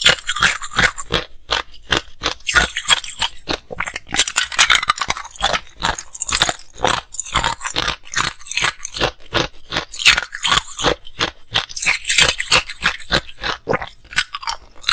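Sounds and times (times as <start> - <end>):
ice crunching between teeth: 0.0 - 14.9.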